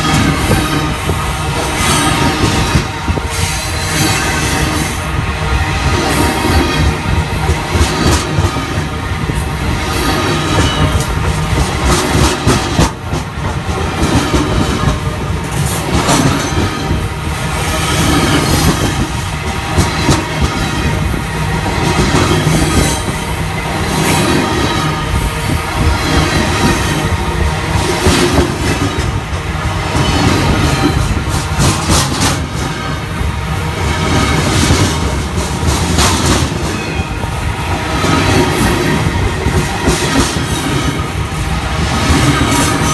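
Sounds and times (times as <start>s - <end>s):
train wheels rolling on rail: 0.0s - 42.9s.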